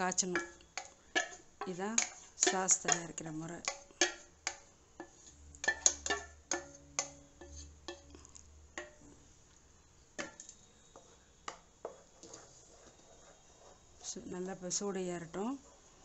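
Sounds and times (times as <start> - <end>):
wooden spatula tapping steel pot: 0.0 - 9.2, 10.2 - 13.8.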